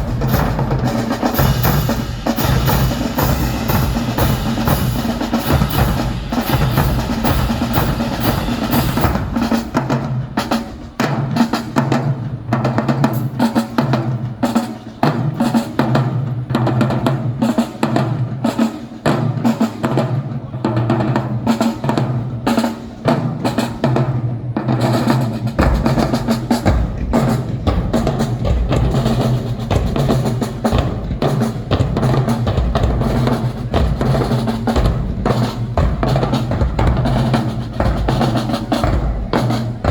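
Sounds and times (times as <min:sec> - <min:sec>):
drumline playing snare and bass drums: 0:00.0 - 0:39.9.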